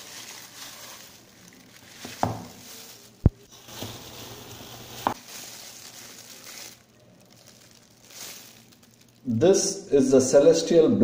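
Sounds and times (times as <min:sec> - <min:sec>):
plastic gloves crinkling: 0:00.0 - 0:09.5.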